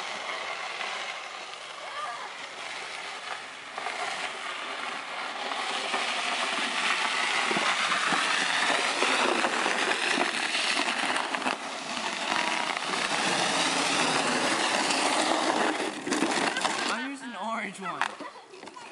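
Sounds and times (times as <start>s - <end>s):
plastic sled scraping over ice: 0.0s - 18.9s.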